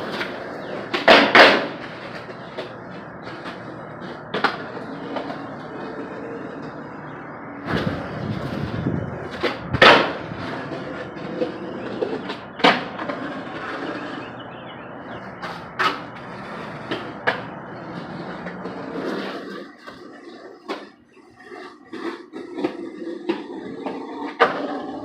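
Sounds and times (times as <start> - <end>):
skateboard clacking on ground: 0.0 - 25.0
skateboard wheels rolling on concrete: 0.0 - 25.0.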